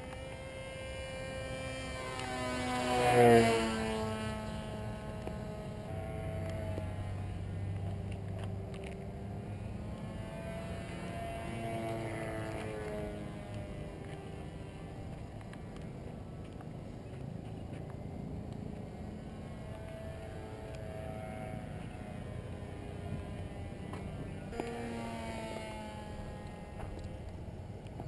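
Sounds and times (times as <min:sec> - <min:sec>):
electric motor propeller buzzing: 0:00.0 - 0:28.0.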